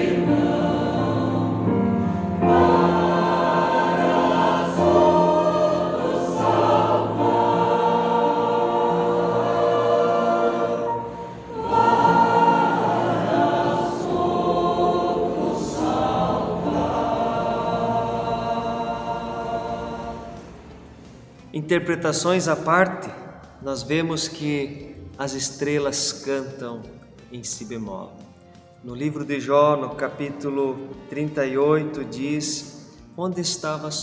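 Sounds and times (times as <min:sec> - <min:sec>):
choir singing sustained chords: 0:00.0 - 0:27.4, 0:28.1 - 0:34.0.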